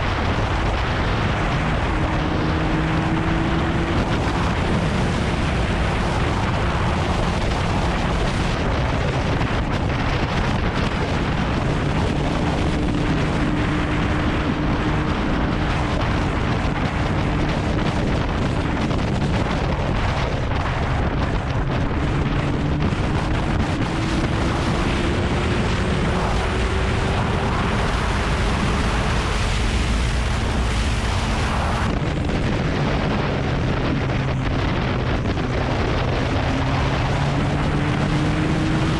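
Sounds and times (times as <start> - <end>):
motorcycle engine cruising: 0.0 - 38.9
wind rush on microphone: 0.0 - 38.9.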